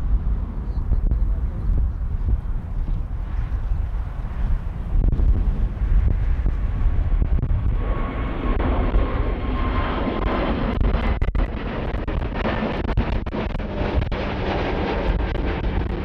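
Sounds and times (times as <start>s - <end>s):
heavy low rumble: 0.0s - 16.0s
jet engines running: 0.0s - 16.0s
steady engine whine: 0.0s - 16.0s.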